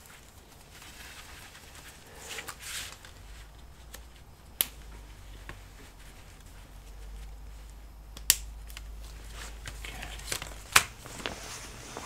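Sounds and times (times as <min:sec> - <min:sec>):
gloves rustling: 0:00.0 - 0:12.0.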